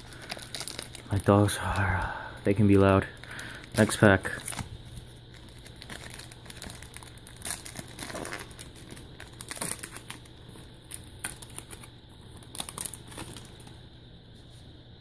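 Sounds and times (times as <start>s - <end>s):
foil wrapper crinkling: 0.0s - 13.8s.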